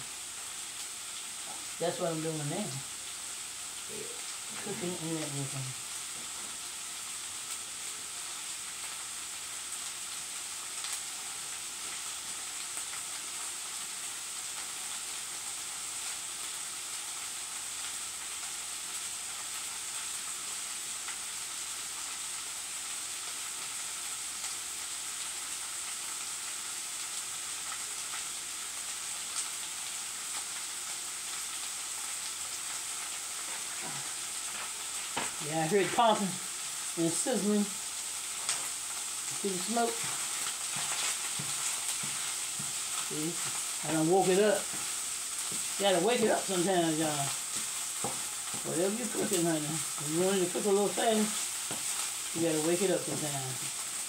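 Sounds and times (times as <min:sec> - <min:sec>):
meat sizzling in a frying pan: 0:00.0 - 0:54.0.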